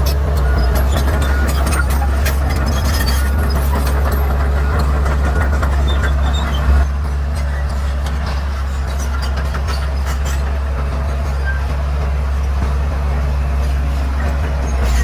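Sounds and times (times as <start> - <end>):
bulldozer diesel engine: 0.0 - 15.0.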